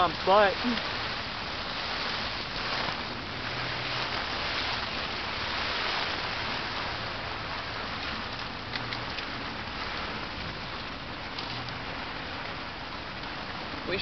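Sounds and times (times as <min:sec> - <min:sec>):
heavy rain on a tent: 0:00.0 - 0:14.0.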